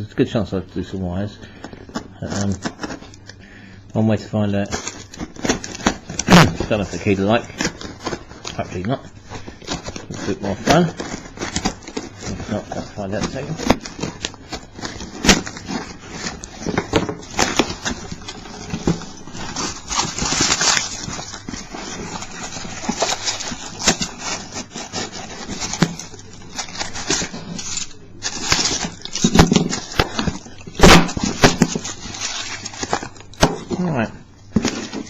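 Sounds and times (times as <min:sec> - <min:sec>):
packet rustling and crinkling: 0:01.2 - 0:03.4, 0:04.4 - 0:35.0.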